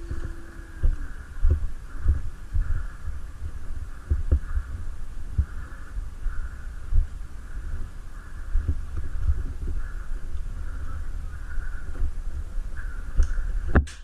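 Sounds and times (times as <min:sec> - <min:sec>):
dull low thumps on microphone: 0:00.0 - 0:14.0.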